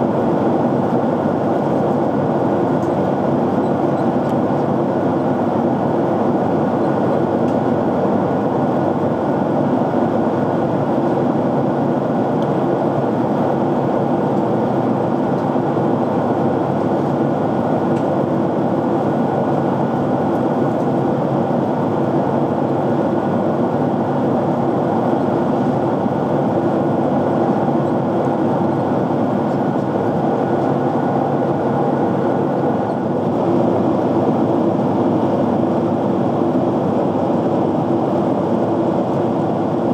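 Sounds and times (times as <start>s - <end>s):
airflow and engine noise: 0.0s - 39.9s.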